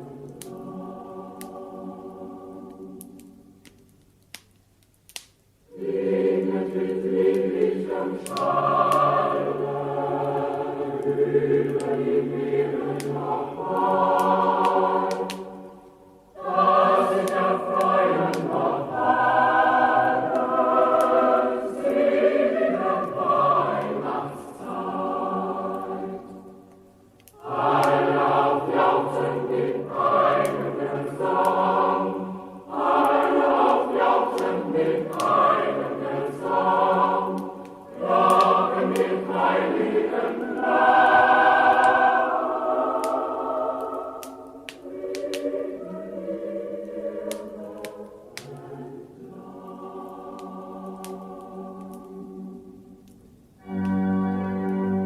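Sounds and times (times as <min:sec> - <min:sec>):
choir singing: 0:00.0 - 0:03.5, 0:05.7 - 0:55.0.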